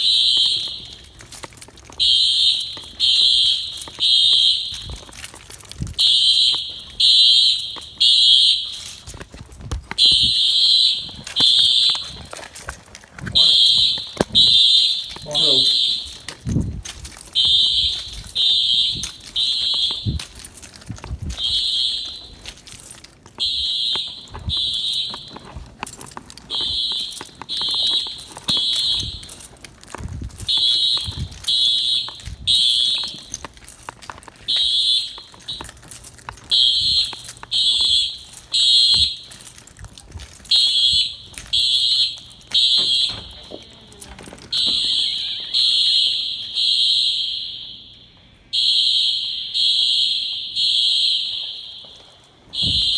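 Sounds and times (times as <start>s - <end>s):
fire alarm horns buzzing: 0.0s - 52.9s.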